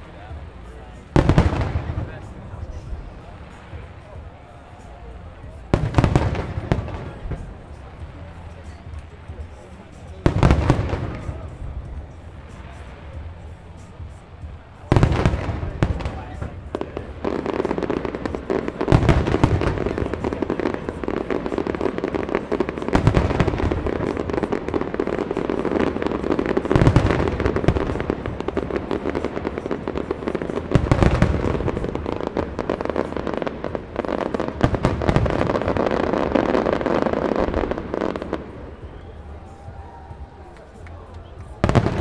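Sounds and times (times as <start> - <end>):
fireworks boom: 0.0 - 42.0
fireworks crackling: 0.0 - 42.0.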